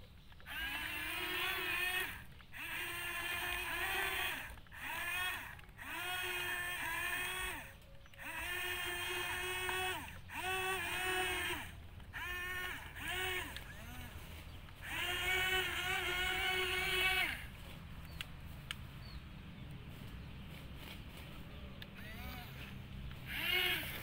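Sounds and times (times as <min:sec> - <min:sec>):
toy excavator motors whining: 0:00.0 - 0:24.0.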